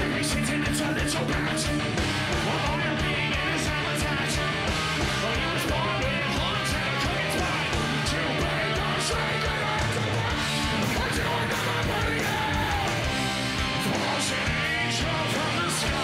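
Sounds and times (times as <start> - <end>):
live heavy rock band: 0.0 - 16.0
rapid drum beat: 0.0 - 16.0.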